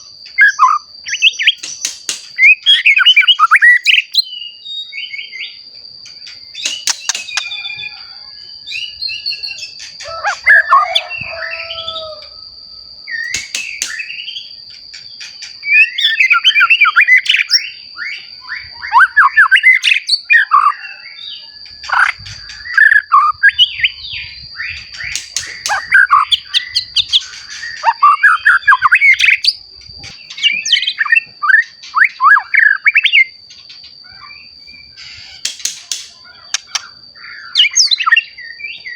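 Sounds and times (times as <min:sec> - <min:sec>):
bird singing whistles and trills: 0:00.0 - 0:12.2, 0:13.0 - 0:38.9.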